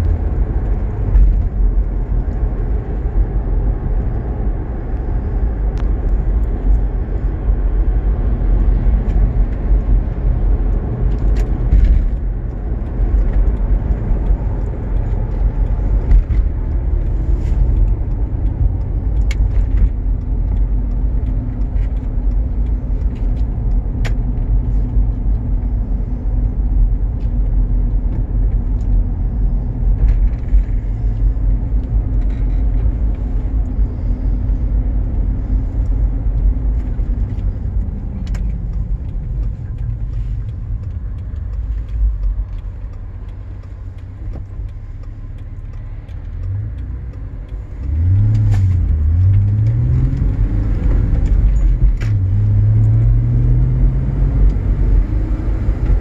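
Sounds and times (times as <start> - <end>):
tyres rumbling on asphalt: 0.0 - 56.0.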